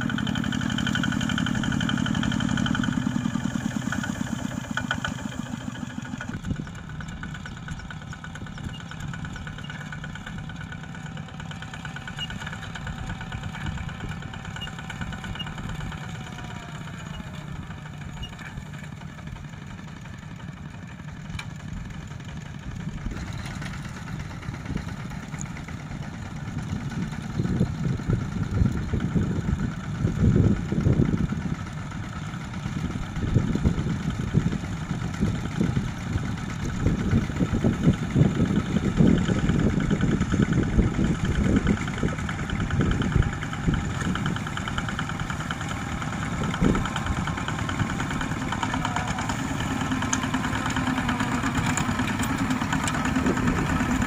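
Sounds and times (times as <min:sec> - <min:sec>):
diesel tractor engines running: 0:00.0 - 0:54.0.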